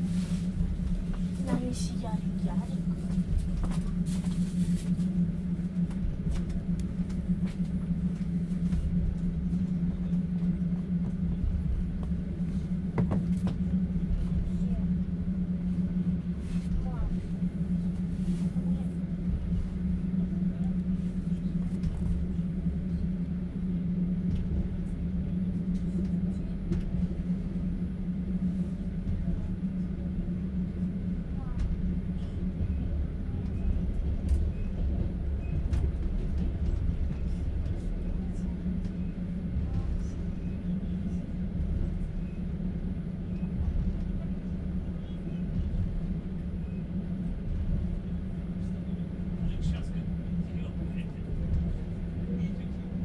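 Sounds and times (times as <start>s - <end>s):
train carriage rumbling: 0.0s - 53.0s.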